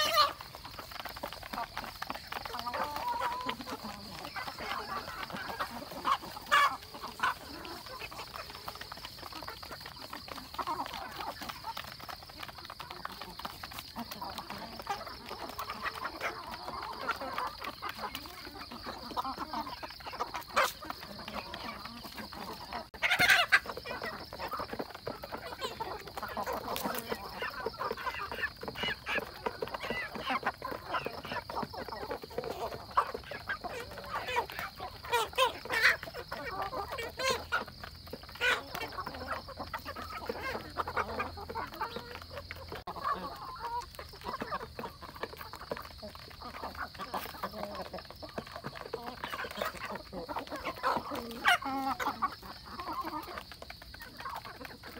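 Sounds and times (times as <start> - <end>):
beaks pecking at feed plates: 0.0 - 54.9
hens and roosters clucking: 0.0 - 54.9.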